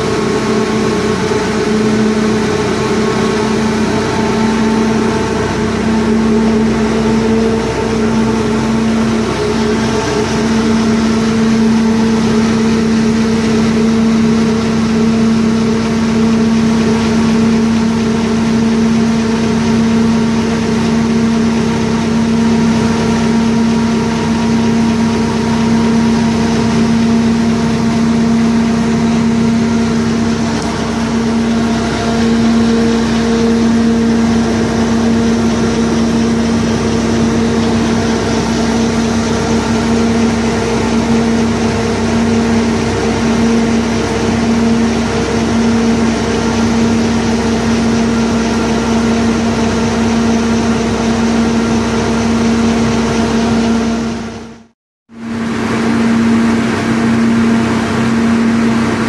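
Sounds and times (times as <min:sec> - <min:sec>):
truck droning hum on rollers: 0:00.0 - 0:59.0.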